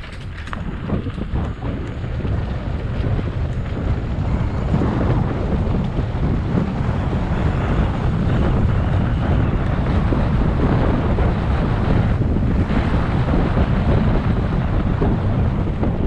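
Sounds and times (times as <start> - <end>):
bike tyre noise: 0.0 - 16.0
wind buffeting microphone: 0.0 - 16.0.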